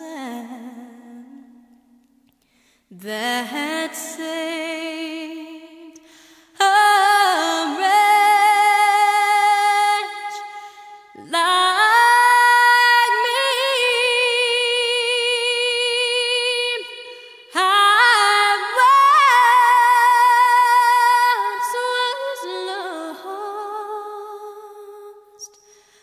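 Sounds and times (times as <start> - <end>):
woman singing with vibrato: 0.0 - 2.0, 2.9 - 25.6.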